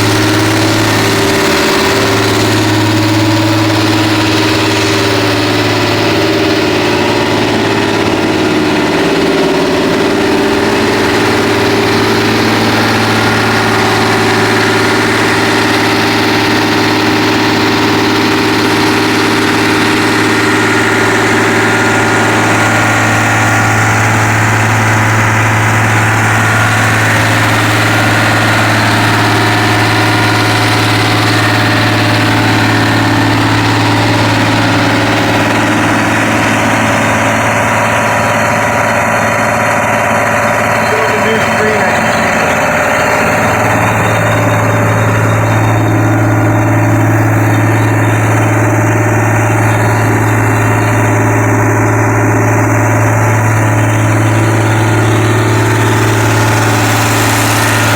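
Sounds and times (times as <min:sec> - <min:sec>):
air compressor engine drone: 0:00.0 - 0:57.9.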